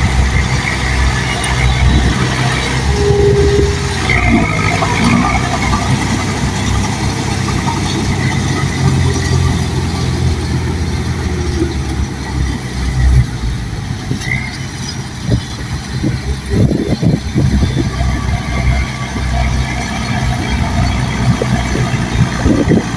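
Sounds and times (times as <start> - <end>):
diesel engine running low: 0.0 - 22.9.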